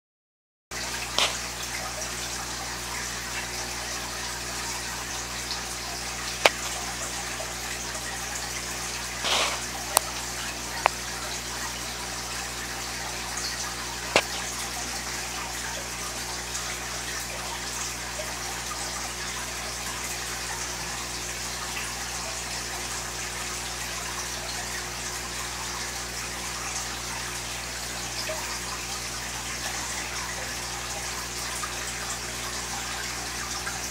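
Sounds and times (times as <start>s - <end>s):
aquarium filter water trickling: 0.7s - 33.9s.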